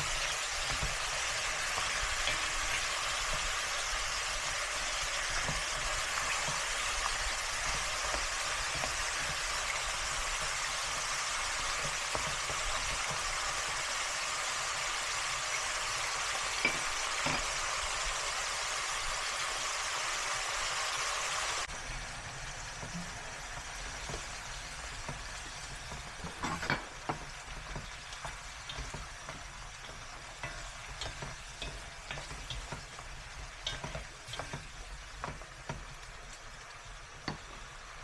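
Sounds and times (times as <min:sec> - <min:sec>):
food sizzling in a hot pan: 0:00.0 - 0:38.0.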